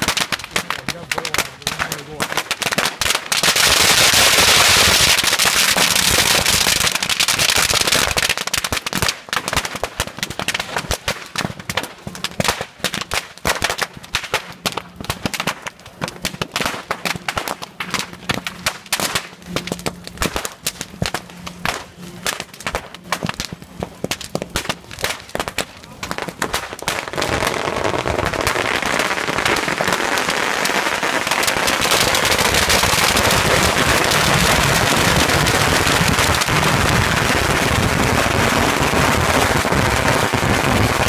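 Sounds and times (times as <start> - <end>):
firecrackers cracking and banging: 0.0 - 41.0.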